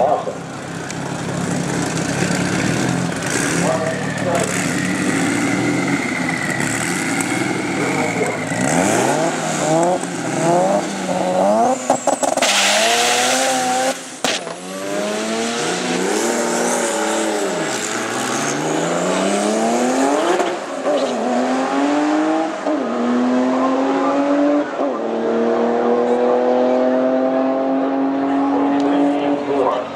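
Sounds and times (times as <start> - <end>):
rotary engine at full throttle: 0.0 - 29.9.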